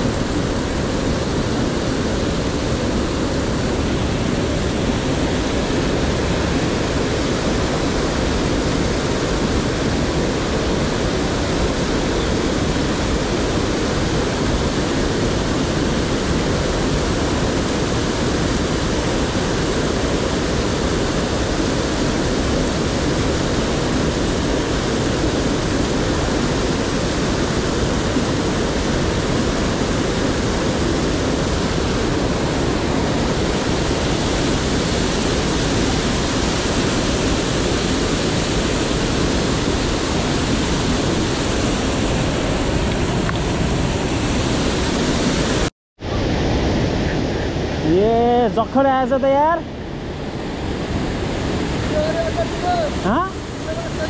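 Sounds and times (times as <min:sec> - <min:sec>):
river water rushing over boulders: 0:00.0 - 0:54.0
small waterfall: 0:00.0 - 0:54.0.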